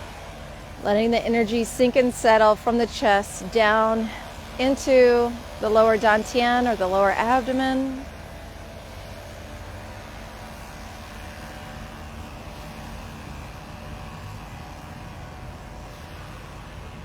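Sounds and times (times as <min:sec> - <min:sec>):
faint humming tones: 0:00.0 - 0:17.0
low engine rumble: 0:00.0 - 0:17.0.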